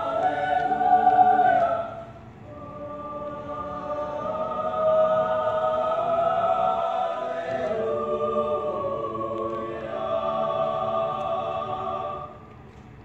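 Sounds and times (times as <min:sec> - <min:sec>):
mixed choir singing chords: 0:00.0 - 0:12.7.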